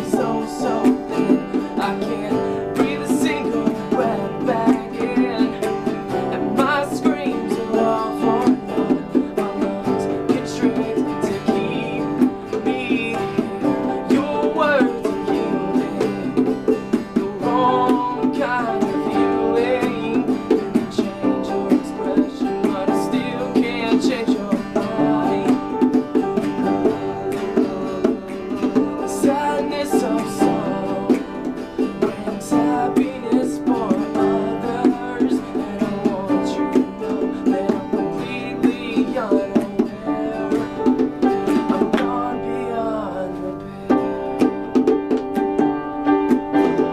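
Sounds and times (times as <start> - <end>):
person singing: 0.0 - 46.9.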